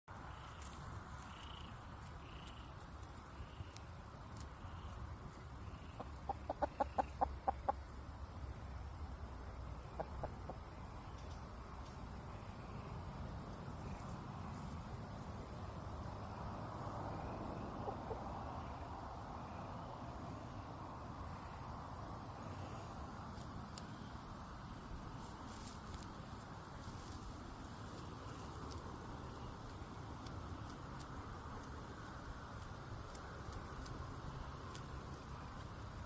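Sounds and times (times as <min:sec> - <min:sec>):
high insect chorus: 0:00.1 - 0:36.0.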